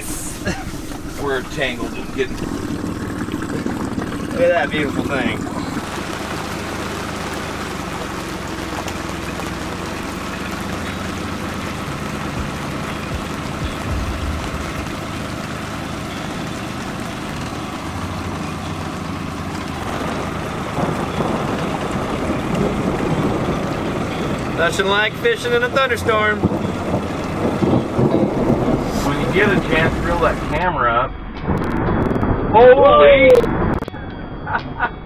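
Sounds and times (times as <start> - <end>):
low rumble: 0.0 - 24.6, 26.0 - 35.0
boat motor running: 0.0 - 30.7
rain and wind on water: 0.0 - 30.7.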